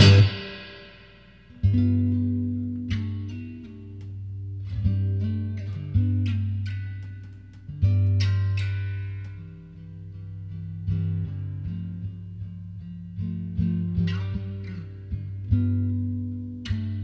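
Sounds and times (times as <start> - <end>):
acoustic guitar solo: 0.0 - 0.7, 1.5 - 17.0.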